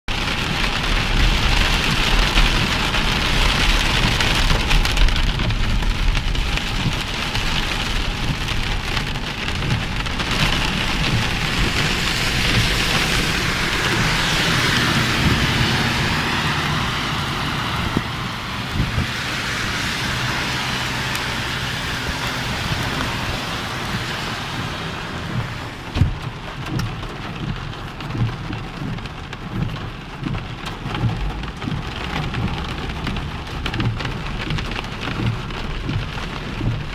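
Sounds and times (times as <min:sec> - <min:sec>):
heavy rain pattering: 0:00.1 - 0:36.9.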